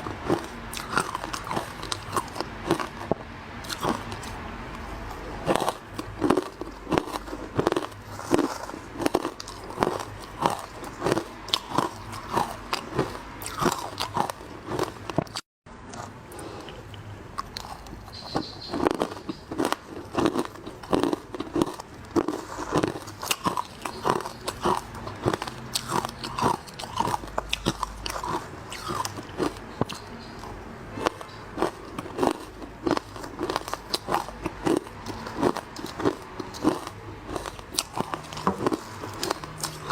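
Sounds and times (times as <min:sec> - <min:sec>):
chewing hard ice: 0:00.0 - 0:39.9.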